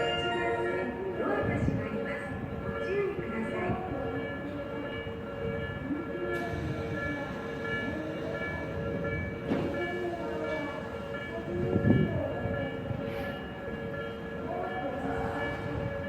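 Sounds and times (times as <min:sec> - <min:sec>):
level crossing warning bell: 0:00.0 - 0:16.0
passing train rumble: 0:00.0 - 0:16.0.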